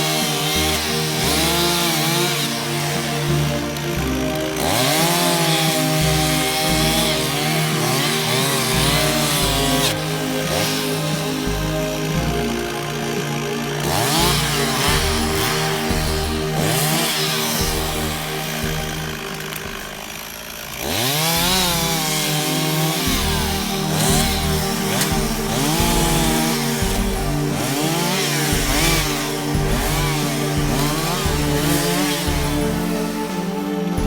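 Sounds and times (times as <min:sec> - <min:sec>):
chainsaw revving cutting wood: 0:00.0 - 0:34.0.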